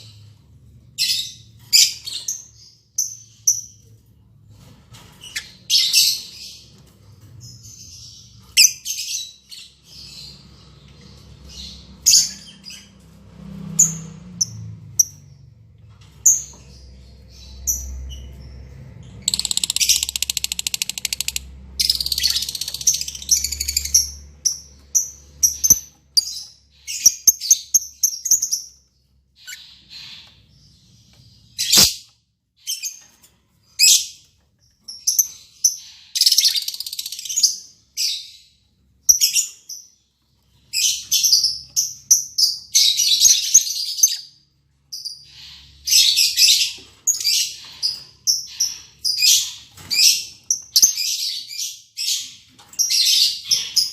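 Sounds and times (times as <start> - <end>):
birds chirping and squawking: 0.0 - 53.9.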